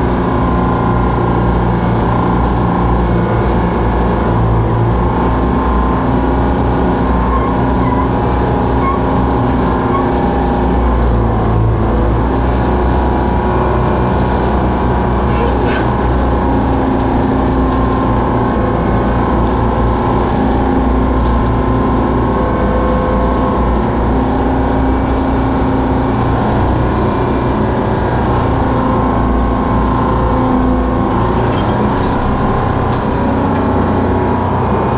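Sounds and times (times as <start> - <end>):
dragline engine running under load: 0.0 - 34.9.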